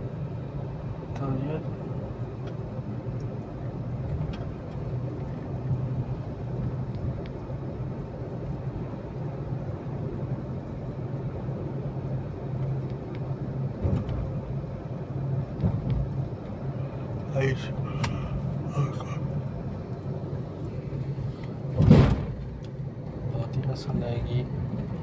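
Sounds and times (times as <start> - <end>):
low background hum and rumble: 0.0 - 25.0.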